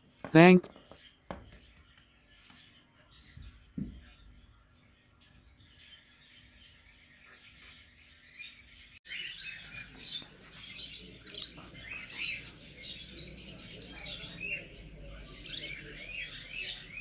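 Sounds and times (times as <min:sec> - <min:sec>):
cockatiels chirping: 0:00.9 - 0:17.0.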